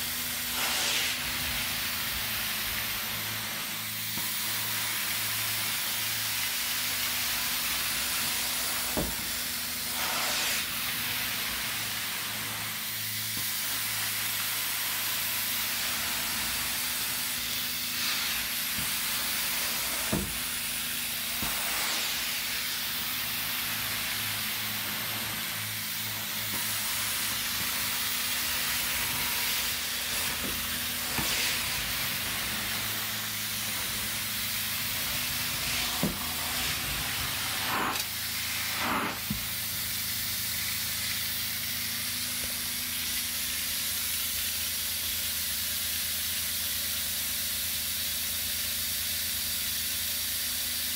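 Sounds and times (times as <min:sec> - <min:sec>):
vacuum suction and spray hiss: 0:00.0 - 0:50.9.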